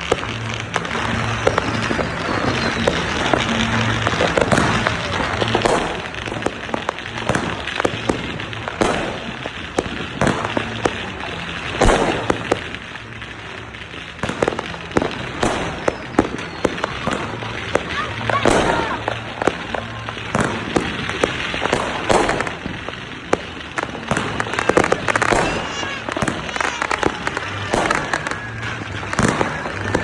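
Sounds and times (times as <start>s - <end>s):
fireworks bangs and crackling: 0.0s - 30.0s
loud firework booms: 0.0s - 30.0s.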